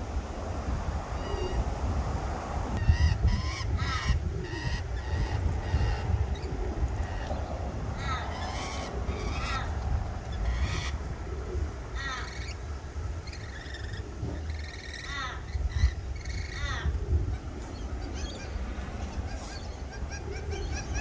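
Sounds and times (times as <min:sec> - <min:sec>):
birds squawking harshly: 0:02.8 - 0:21.0.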